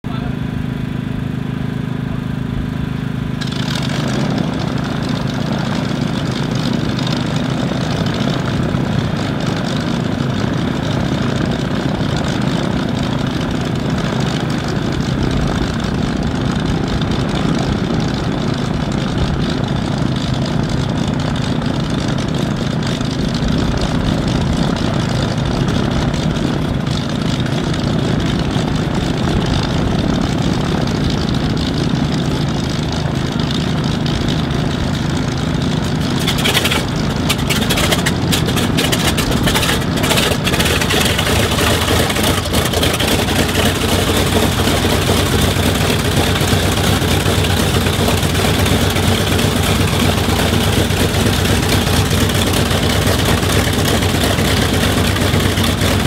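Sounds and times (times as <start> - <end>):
aircraft radial engine idling: 0.0 - 56.0.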